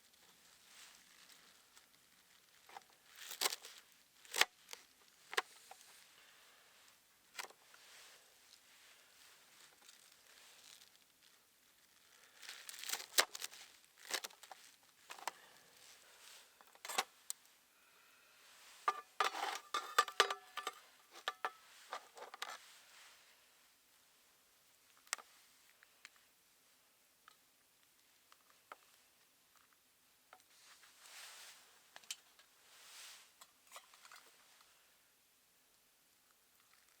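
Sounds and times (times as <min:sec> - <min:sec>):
crinkling and rustling: 0:00.0 - 0:17.6, 0:18.4 - 0:23.4, 0:24.7 - 0:26.3, 0:27.2 - 0:34.8, 0:36.3 - 0:37.0.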